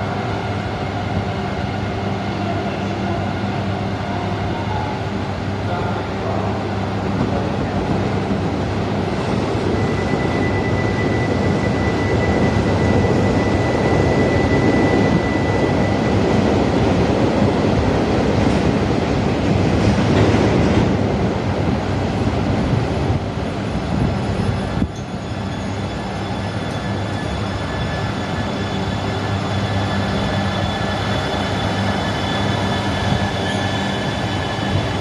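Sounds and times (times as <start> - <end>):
train wheels and motors rumbling: 0.0 - 35.0.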